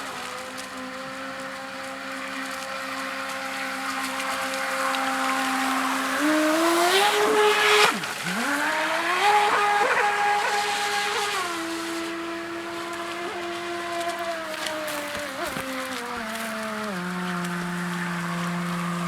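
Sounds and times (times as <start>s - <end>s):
boat motor whining: 0.0s - 19.0s.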